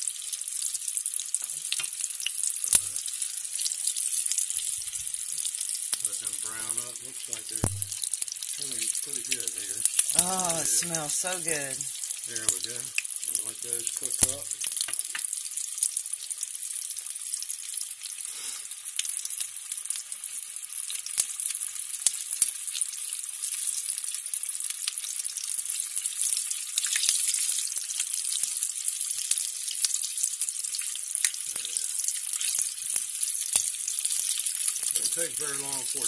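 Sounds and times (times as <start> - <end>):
slices deep-frying in hot oil: 0.0 - 36.0.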